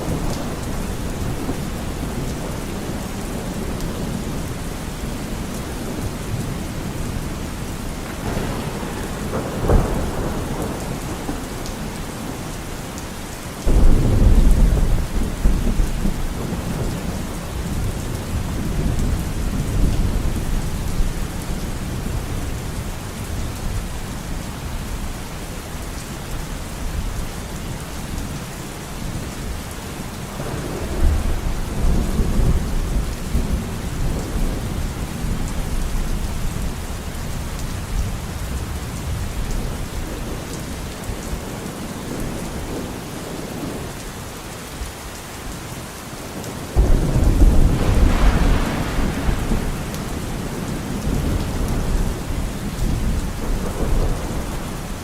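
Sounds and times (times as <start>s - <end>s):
thunder rumbling: 0.0s - 13.0s, 13.6s - 24.4s, 30.3s - 43.9s, 46.8s - 55.0s
steady rain falling: 0.0s - 55.0s.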